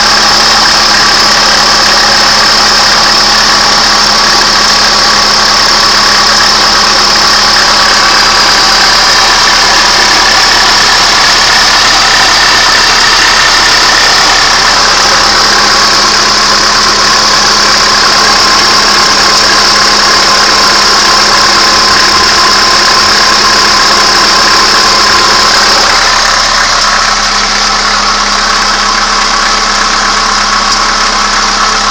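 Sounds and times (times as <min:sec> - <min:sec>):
car engine idling: 0:00.0 - 0:31.9
clicking in engine: 0:00.0 - 0:31.9.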